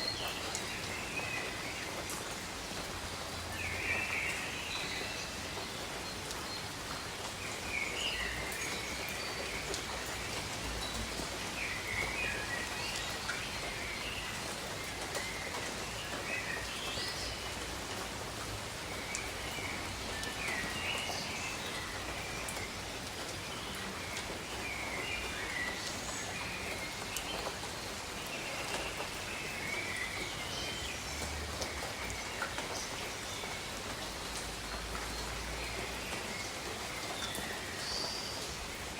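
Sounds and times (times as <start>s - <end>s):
rain on foliage: 0.0s - 38.9s.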